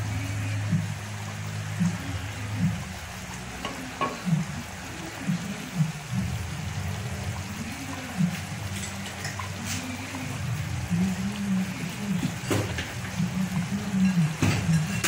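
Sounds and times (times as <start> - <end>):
sauce bubbling in a pot: 0.0 - 15.0.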